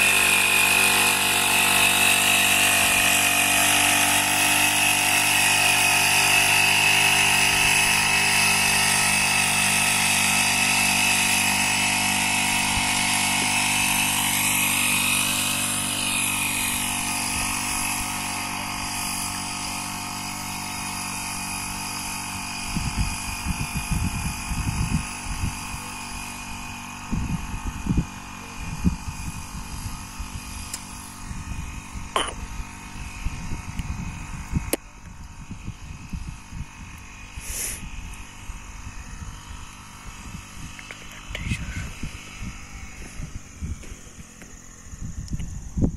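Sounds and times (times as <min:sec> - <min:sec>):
small petrol engine running: 0:00.0 - 0:45.9.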